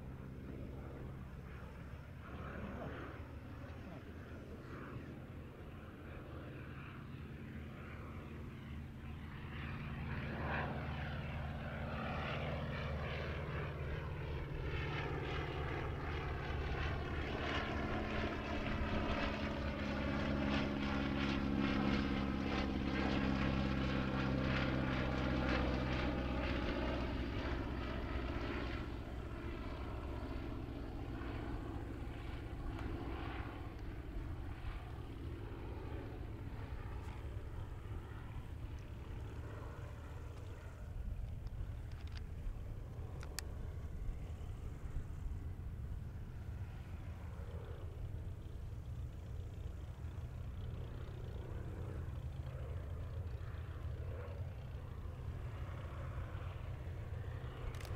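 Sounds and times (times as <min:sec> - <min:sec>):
biplane radial engine droning: 0:00.0 - 0:57.9.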